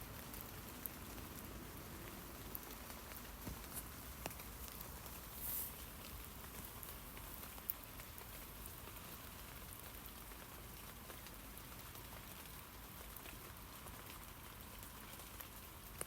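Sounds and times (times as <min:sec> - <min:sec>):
light rain on leaves: 0:00.0 - 0:16.0.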